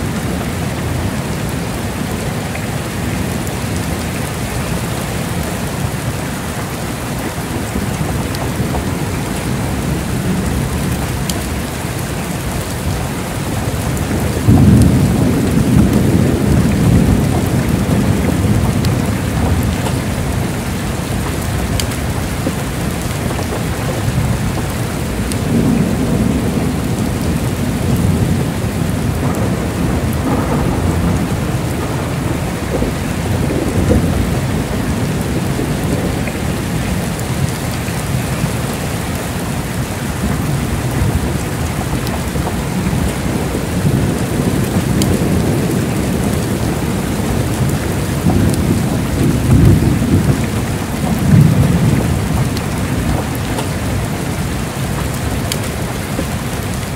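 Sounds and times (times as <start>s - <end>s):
heavy rain falling: 0.0s - 56.9s
rolling thunder: 0.0s - 56.9s.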